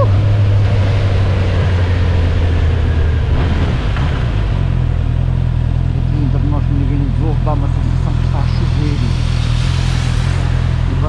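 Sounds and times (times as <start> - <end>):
motorcycle engine at low revs: 0.0 - 11.0
wind: 0.0 - 11.0.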